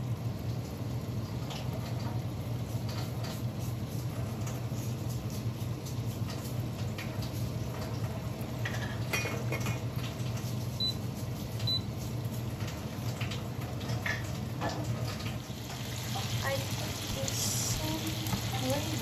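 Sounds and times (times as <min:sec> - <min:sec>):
food frying with crackles: 0:00.0 - 0:19.0.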